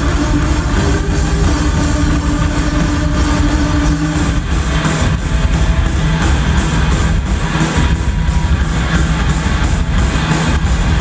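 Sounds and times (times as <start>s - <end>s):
bass guitar: 0.0s - 11.0s
drums: 0.0s - 11.0s
electric guitars: 0.0s - 11.0s.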